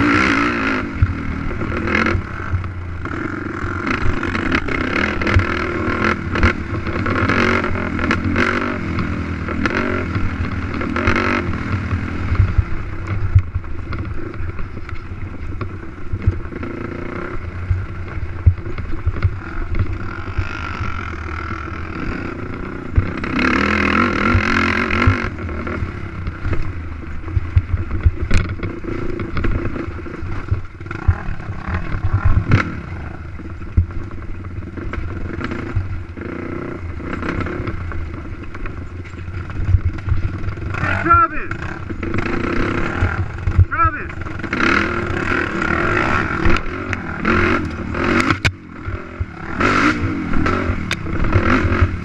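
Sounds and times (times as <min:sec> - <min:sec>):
quad engine revving: 0:00.0 - 0:14.7, 0:15.6 - 0:27.0, 0:27.6 - 0:52.0
knocks and clatter over bumps: 0:00.7 - 0:52.0.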